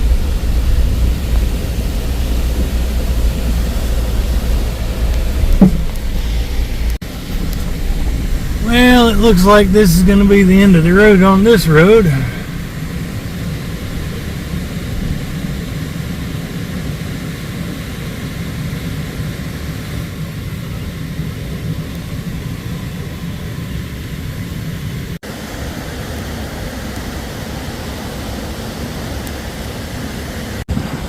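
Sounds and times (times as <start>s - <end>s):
vehicle driving rumble: 0.0s - 25.2s.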